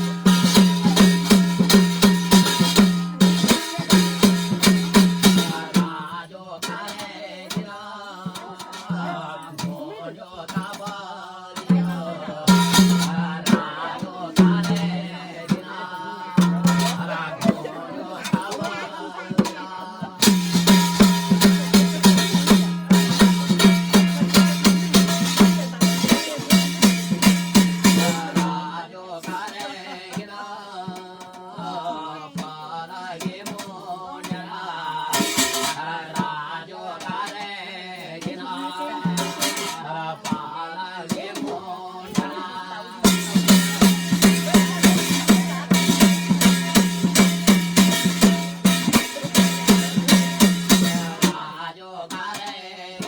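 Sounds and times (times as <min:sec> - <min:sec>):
fast drumming: 0:00.0 - 0:09.9, 0:10.5 - 0:53.0
rattling percussion: 0:00.0 - 0:53.0.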